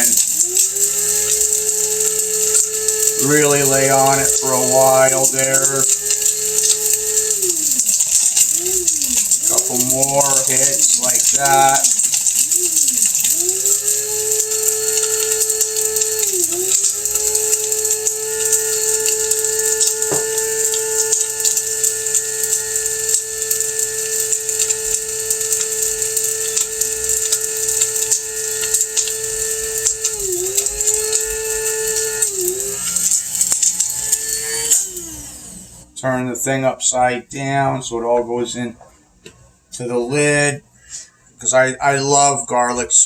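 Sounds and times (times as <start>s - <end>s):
electric spice grinder running: 0.0s - 36.0s.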